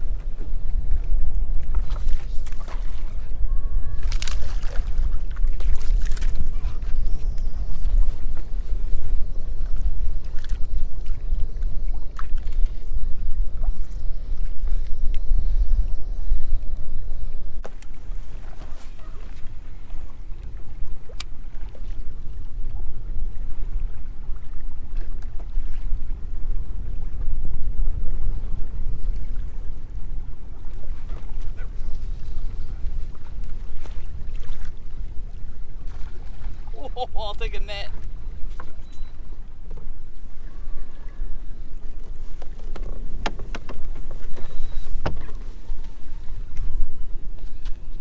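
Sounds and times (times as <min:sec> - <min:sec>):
water slapping boat hull: 0:00.0 - 0:48.0
wind buffeting microphone: 0:00.0 - 0:48.0.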